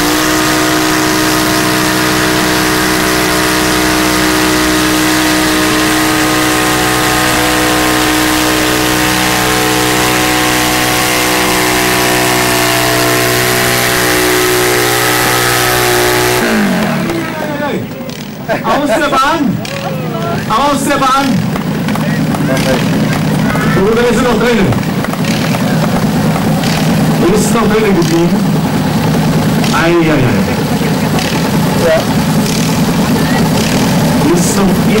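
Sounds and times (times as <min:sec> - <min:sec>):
tractor engine at high revs: 0:00.0 - 0:35.0.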